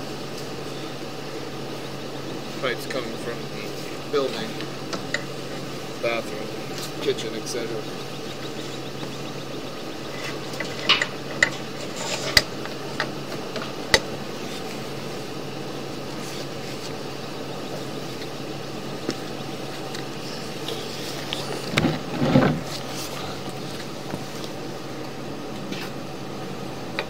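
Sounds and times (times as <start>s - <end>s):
machine hum: 0.0s - 27.0s.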